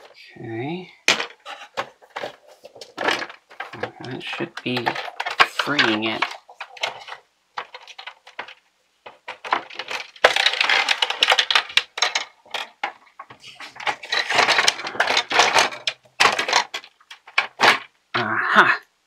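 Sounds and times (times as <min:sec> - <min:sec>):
plastic toy parts clattering: 0:01.0 - 0:18.0.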